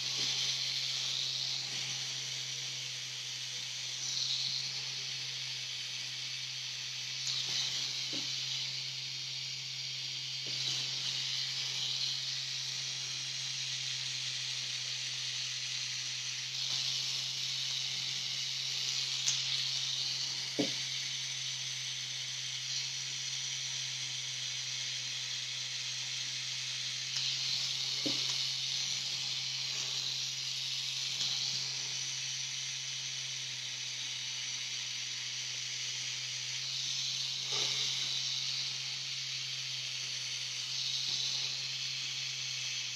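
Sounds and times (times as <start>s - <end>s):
tattoo machine humming: 0.0s - 42.9s.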